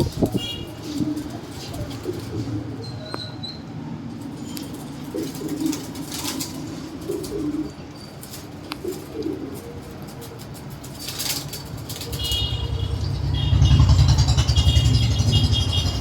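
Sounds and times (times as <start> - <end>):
pigeons cooing: 0.0 - 3.6, 4.2 - 16.0.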